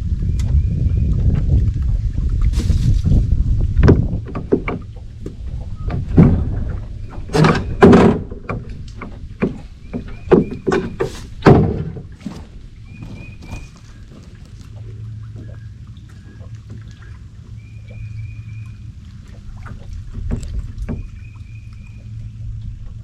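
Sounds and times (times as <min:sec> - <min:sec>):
wind on microphone: 0:00.0 - 0:23.0
paddle knocking against hull: 0:00.4 - 0:22.2.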